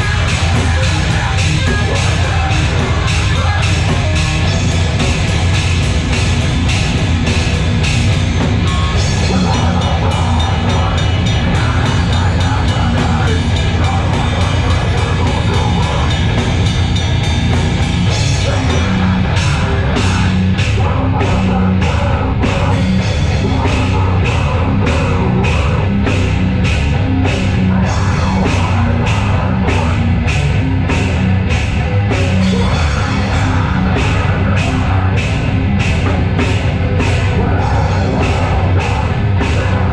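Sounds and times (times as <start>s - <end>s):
distorted guitars: 0.0s - 39.9s
pounding drums: 0.0s - 39.9s.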